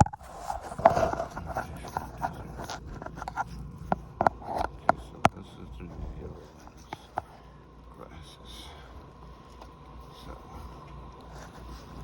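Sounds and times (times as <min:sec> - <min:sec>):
faint low rumble: 0:00.5 - 0:12.0.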